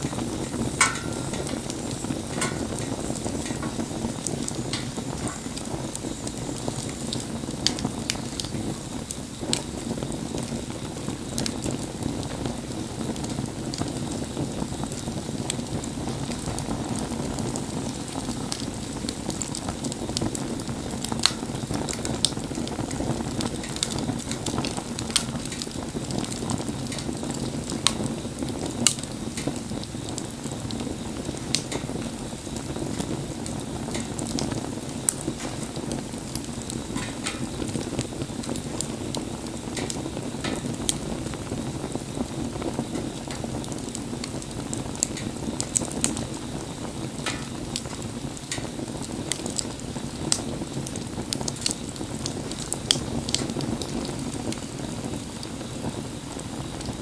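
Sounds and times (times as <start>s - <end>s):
burning wood crackling and popping: 0.0s - 57.0s
low rush of flame: 0.0s - 57.0s.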